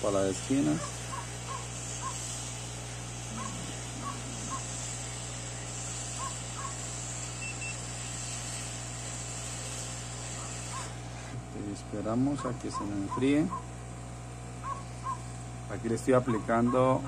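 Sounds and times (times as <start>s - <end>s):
hot air hiss: 0.0s - 17.0s.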